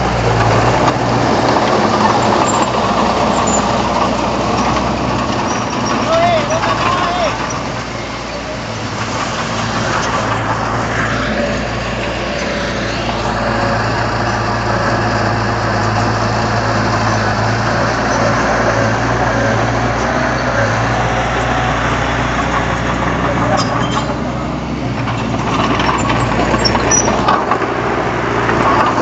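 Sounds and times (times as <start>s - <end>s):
diesel machinery engine drone: 0.0s - 29.0s
machinery clattering: 0.0s - 29.0s.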